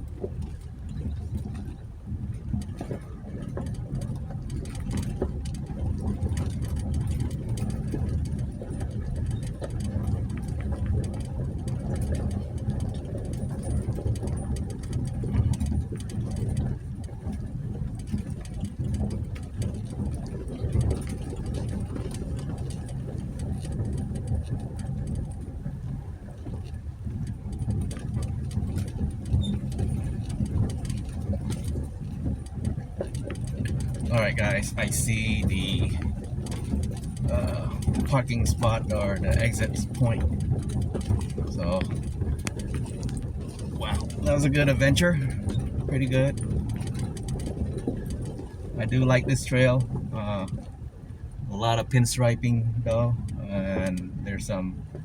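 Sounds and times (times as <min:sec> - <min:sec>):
vehicle engine and tyres rumbling: 0:00.0 - 0:55.0.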